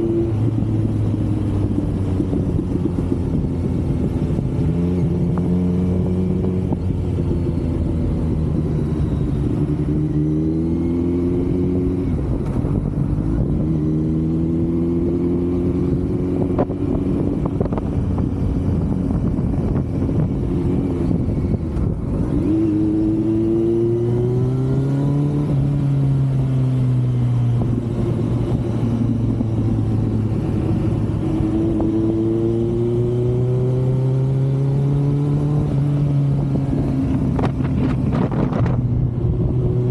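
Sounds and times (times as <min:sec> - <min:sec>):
wind buffeting microphone: 0:00.0 - 0:10.6, 0:11.2 - 0:39.9
motorcycle engine accelerating: 0:00.0 - 0:39.9.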